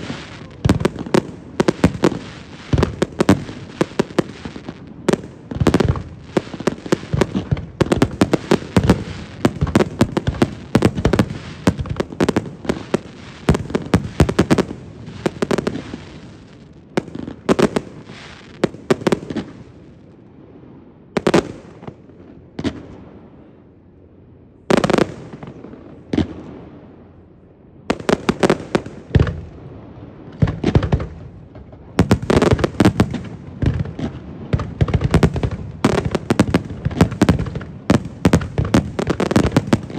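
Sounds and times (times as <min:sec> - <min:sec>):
fireworks bangs and cracks: 0:00.0 - 0:20.0, 0:21.1 - 0:23.6, 0:24.7 - 0:26.9, 0:27.9 - 0:39.9.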